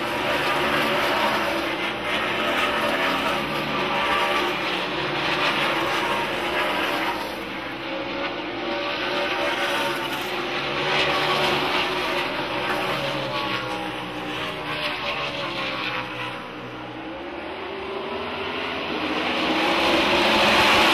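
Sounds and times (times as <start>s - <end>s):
race car engines at high revs: 0.0s - 20.9s.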